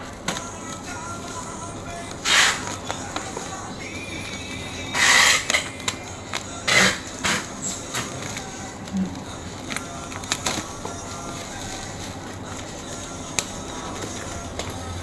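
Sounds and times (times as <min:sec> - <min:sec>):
packaging rustling and tearing: 0:00.0 - 0:15.0.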